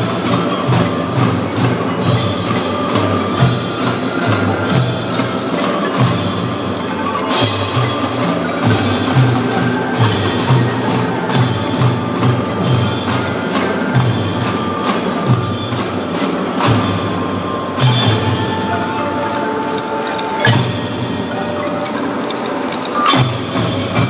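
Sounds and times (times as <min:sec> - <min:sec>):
drums beating: 0:00.0 - 0:24.0
mallet percussion tune: 0:00.0 - 0:24.0.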